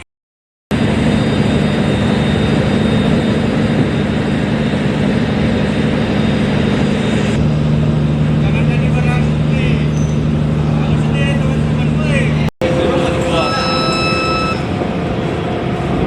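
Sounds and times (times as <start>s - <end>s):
ship machinery droning: 0.7s - 16.0s.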